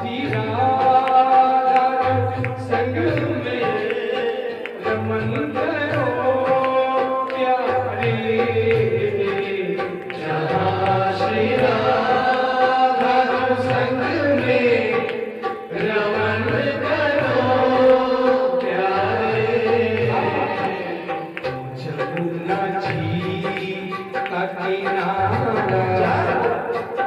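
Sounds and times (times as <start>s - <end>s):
hand drum beat: 0.0s - 27.0s
man singing: 0.0s - 27.0s.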